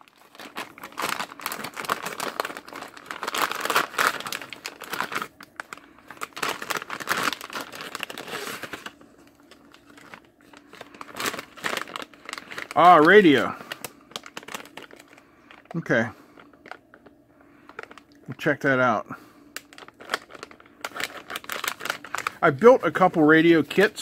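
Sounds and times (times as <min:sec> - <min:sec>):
plastic bags crinkling: 0:00.0 - 0:18.2, 0:19.5 - 0:24.0.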